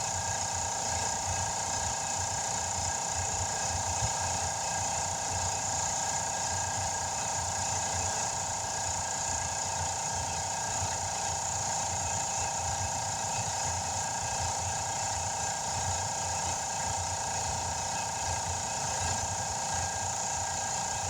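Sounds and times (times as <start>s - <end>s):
motor running steadily: 0.0s - 21.0s.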